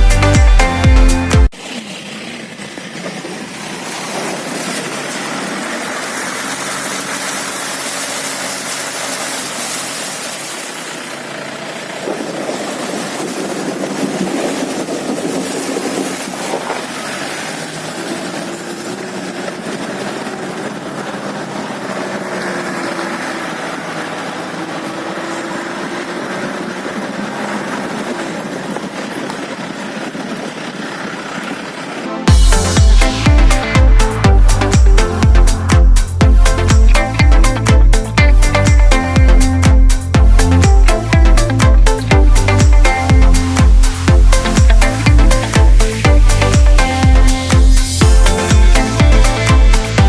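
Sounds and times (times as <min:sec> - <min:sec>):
vehicle engine running: 0:00.0 - 0:50.0
road travel hiss: 0:01.5 - 0:50.0.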